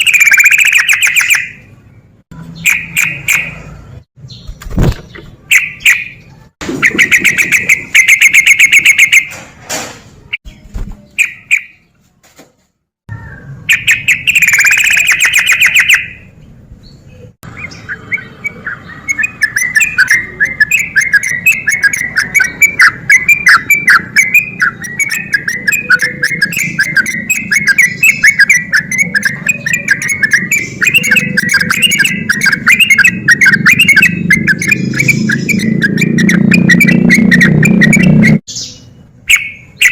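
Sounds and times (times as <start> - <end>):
bulbul singing: 0.0 - 9.3, 10.4 - 11.9, 13.1 - 39.9.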